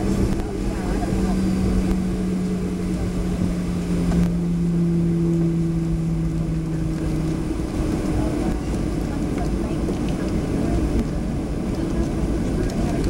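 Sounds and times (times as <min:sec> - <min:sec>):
engine hum: 0:00.0 - 0:13.0
jet engine low rumble: 0:00.0 - 0:13.0.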